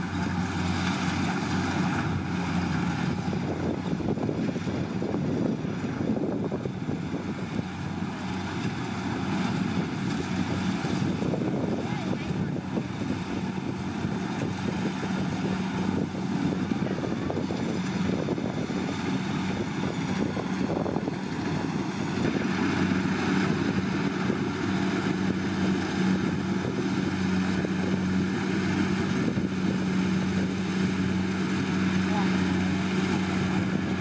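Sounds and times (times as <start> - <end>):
combine harvester engine hum: 0.0 - 34.0.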